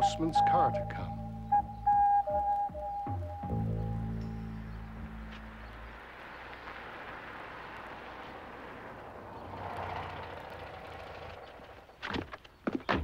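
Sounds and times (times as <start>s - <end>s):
car approaching on road: 0.0s - 12.6s.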